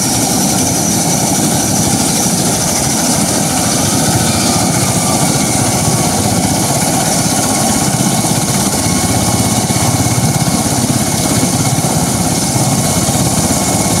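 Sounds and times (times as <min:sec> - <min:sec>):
high turbine whine: 0:00.0 - 0:14.0
tiltrotor aircraft running: 0:00.0 - 0:14.0.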